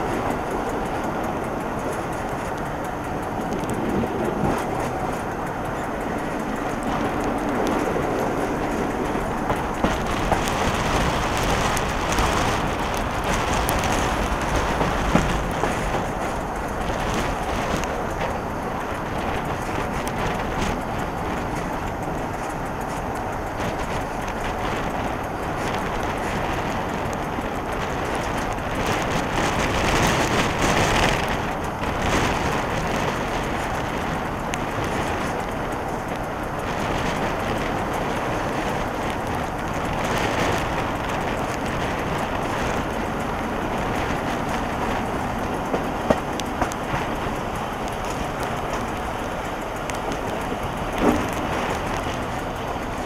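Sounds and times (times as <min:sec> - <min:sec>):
train wheels rumbling on rails: 0:00.0 - 0:53.0
wind on microphone: 0:00.0 - 0:53.0.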